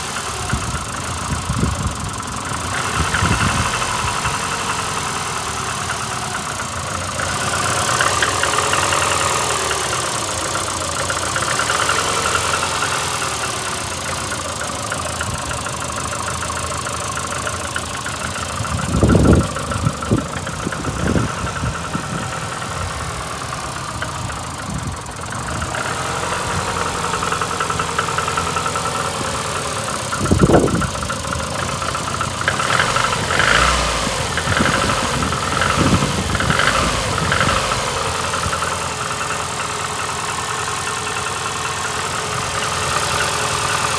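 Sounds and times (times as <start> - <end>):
engine idling with ticking knock: 0.0 - 43.9
engine thumps: 0.0 - 43.9.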